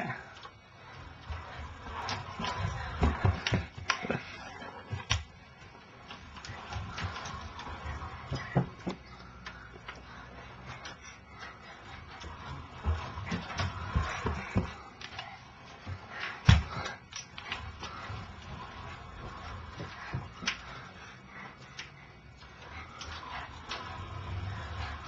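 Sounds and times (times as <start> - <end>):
scooter rolling over carpet: 0.1 - 21.6, 22.2 - 25.0.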